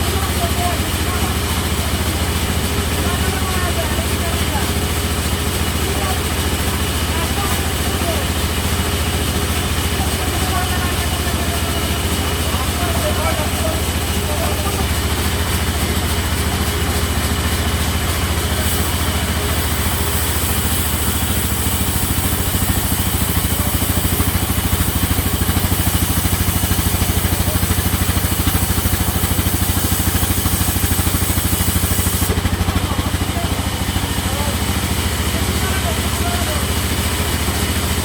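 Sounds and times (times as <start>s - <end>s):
sawmill machinery droning: 0.0s - 38.0s.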